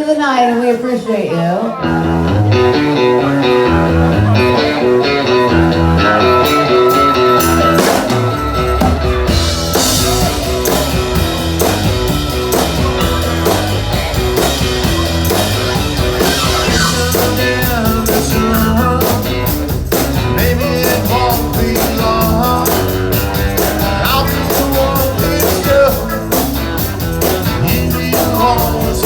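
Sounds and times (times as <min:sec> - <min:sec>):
guitar and bass riff: 0:01.8 - 0:29.0
drum kit and cymbals: 0:02.0 - 0:29.0.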